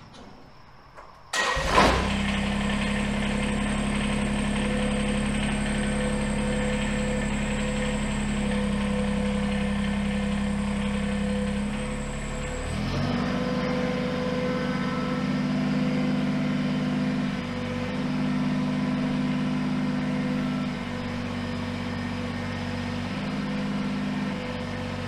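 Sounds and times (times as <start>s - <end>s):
tractor diesel engine running: 1.4s - 25.0s.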